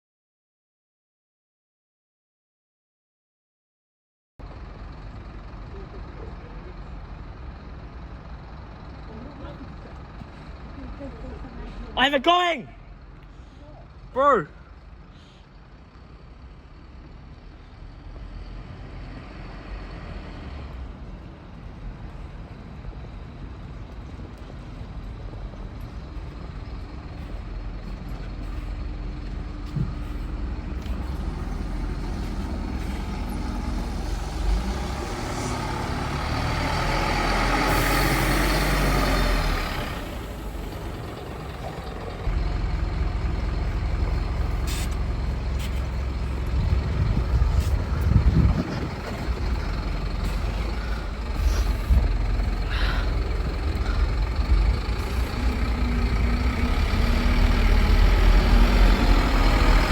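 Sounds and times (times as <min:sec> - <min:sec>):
bus diesel engine rumble: 0:04.4 - 0:59.9.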